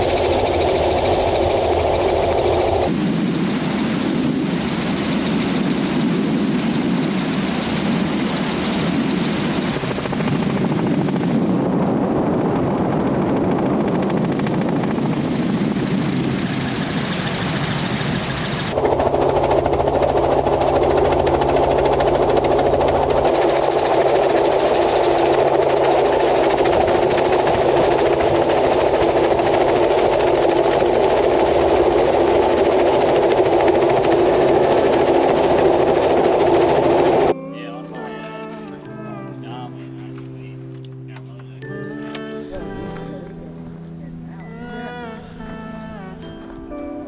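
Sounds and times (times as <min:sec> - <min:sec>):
helicopter engine and rotor drone: 0:00.0 - 0:38.0.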